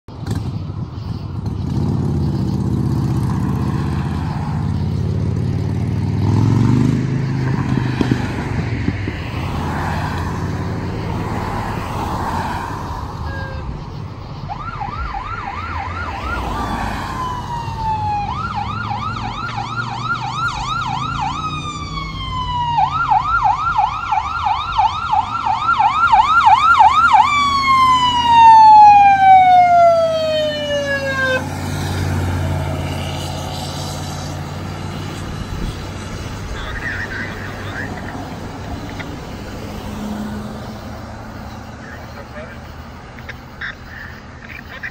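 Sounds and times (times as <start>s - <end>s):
engine and traffic rumble: 0.0s - 44.9s
fire truck siren: 3.3s - 5.9s, 6.5s - 44.2s.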